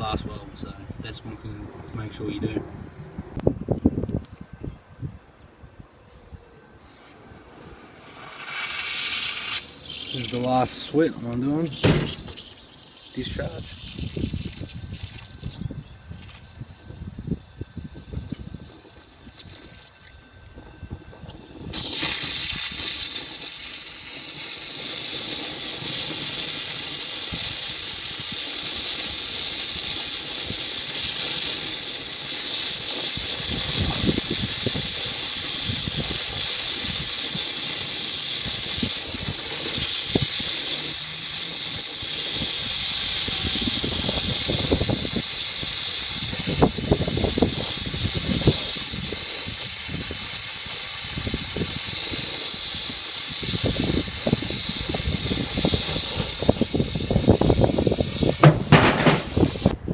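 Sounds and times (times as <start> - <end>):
torch flame hissing: 7.8 - 59.9.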